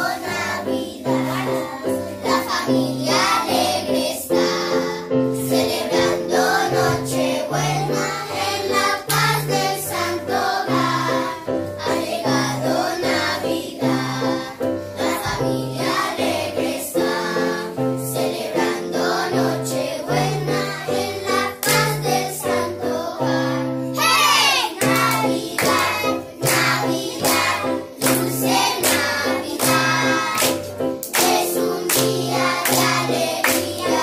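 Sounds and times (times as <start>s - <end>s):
children singing together: 0.0s - 34.0s.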